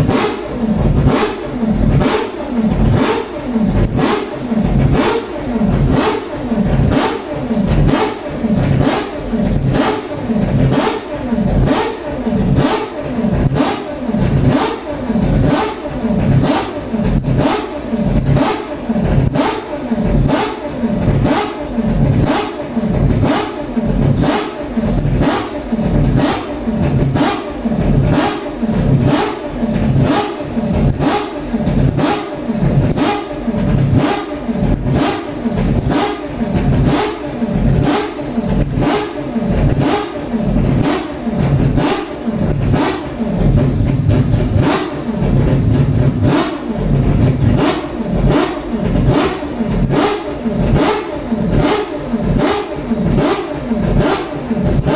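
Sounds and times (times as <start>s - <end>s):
rotary racing engine running: 0.0s - 54.9s.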